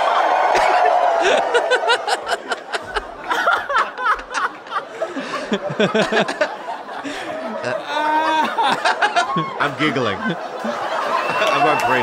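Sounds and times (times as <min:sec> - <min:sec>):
people laughing hard: 0:00.2 - 0:12.0.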